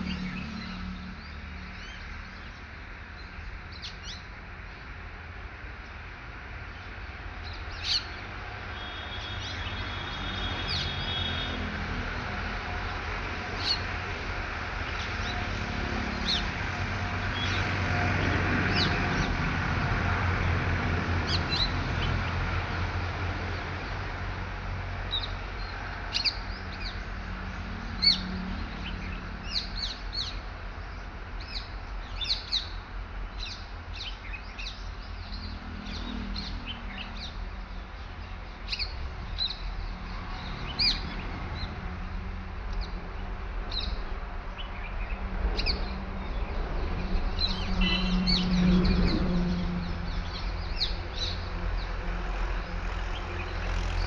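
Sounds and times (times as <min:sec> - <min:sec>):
birds chirping: 0:05.8 - 0:54.0.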